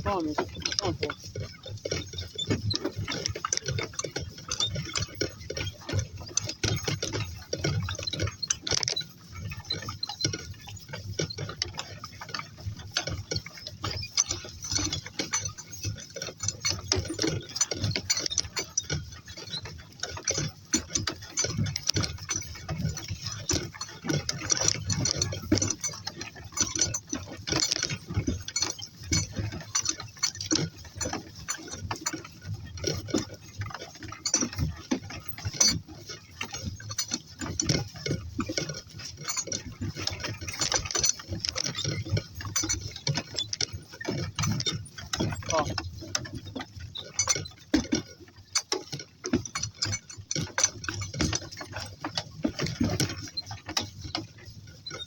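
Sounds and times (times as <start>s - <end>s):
footsteps of people and donkeys: 0.0s - 55.0s
irregular clicks and ticks: 0.0s - 55.0s.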